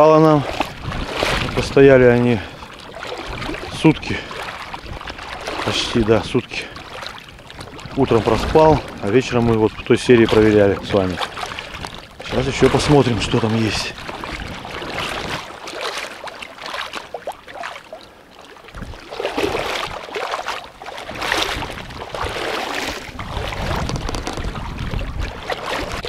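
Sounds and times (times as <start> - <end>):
water sloshing around wading legs: 0.0 - 26.0.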